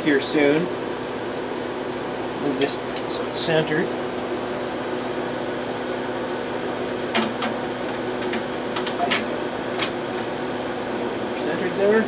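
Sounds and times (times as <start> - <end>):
cooling fans humming: 0.0 - 12.0.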